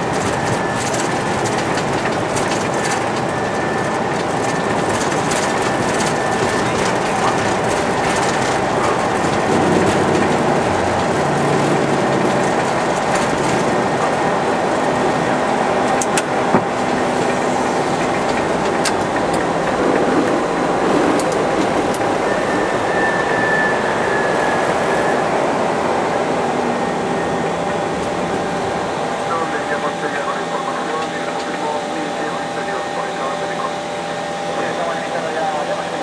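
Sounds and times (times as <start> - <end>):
jet engines roaring: 0.0 - 36.0.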